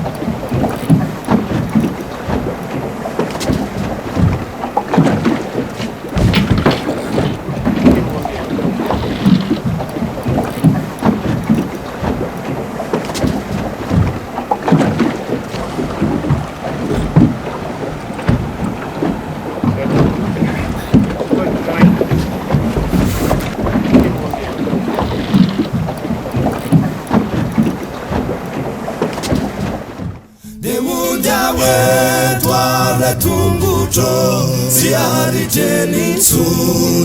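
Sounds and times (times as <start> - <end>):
knocking against hull: 0.0 - 30.3
water splashing against boat: 0.0 - 37.0.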